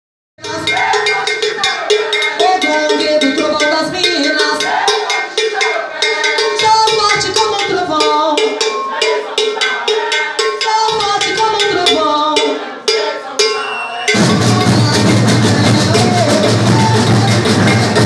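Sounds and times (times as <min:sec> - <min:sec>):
drums and bell beat: 0:00.4 - 0:18.0
people singing: 0:00.4 - 0:18.0.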